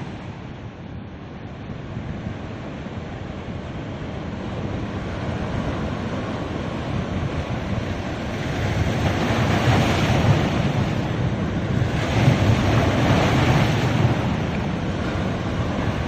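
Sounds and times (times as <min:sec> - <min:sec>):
surf breaking on a beach: 0:00.0 - 0:16.0
wind on microphone: 0:00.0 - 0:16.0.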